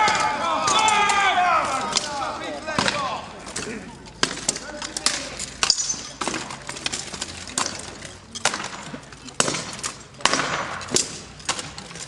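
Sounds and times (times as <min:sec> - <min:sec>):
swords and shields clashing: 0:00.0 - 0:12.0.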